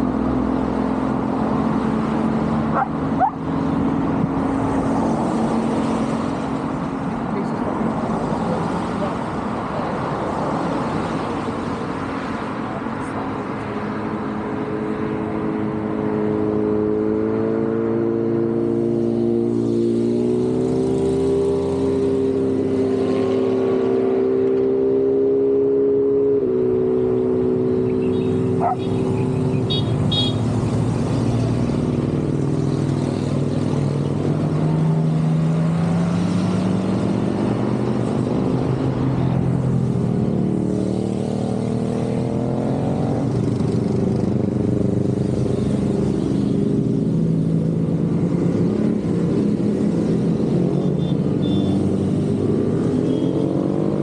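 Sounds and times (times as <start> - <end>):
motorcycles riding past: 0.0 - 54.0.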